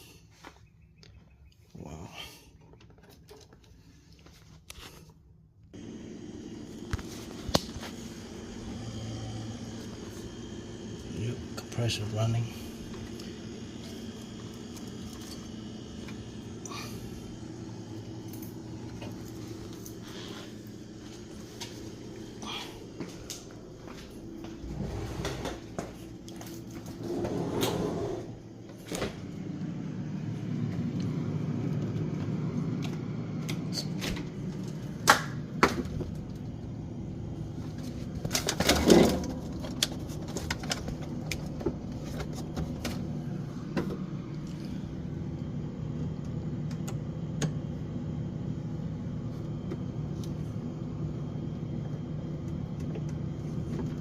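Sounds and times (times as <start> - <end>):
compressor humming: 1.5 - 54.0.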